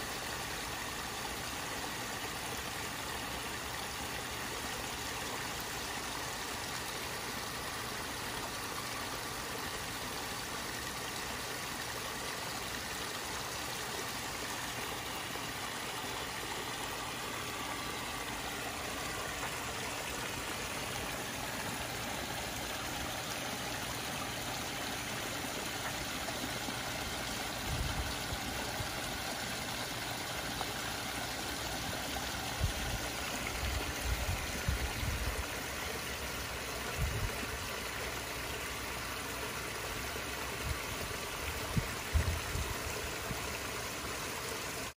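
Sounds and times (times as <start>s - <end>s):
water running into pond: 0.0s - 44.9s.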